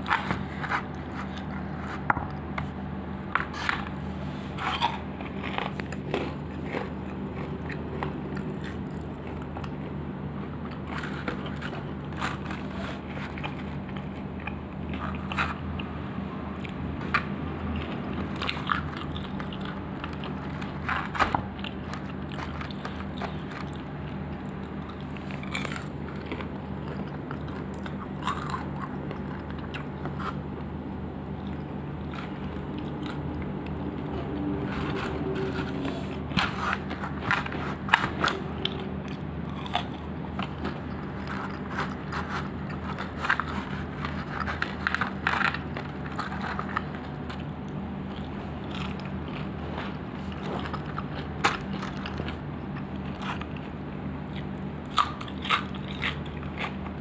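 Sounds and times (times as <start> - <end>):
crunchy chewing: 0.0 - 57.0
steady low hum: 0.0 - 57.0.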